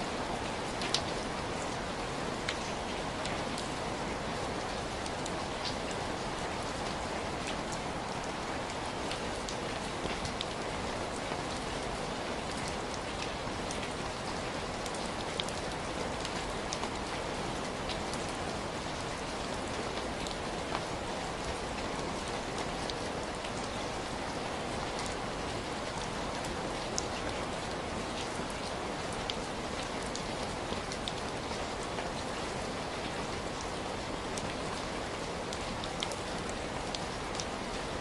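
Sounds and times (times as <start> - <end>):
raindrops ticking on a surface: 0.1 - 38.0.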